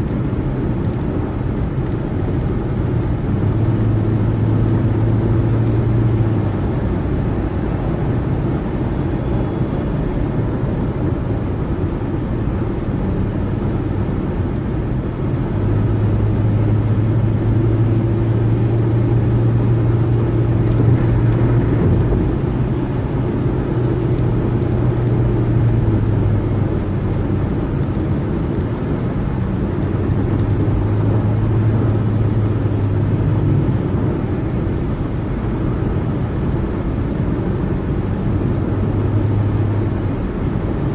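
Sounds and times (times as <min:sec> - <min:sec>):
tyre and road noise: 0:00.0 - 0:40.9.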